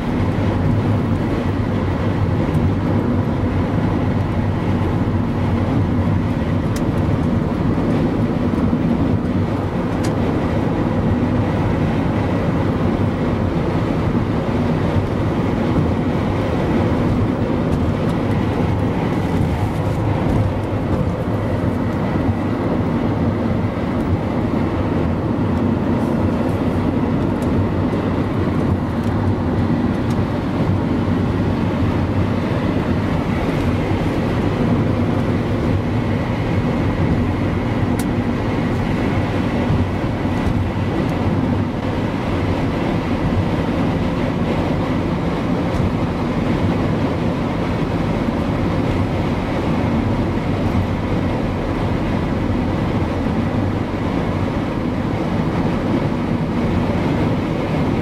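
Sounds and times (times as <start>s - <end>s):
car interior road noise: 0.0s - 58.0s.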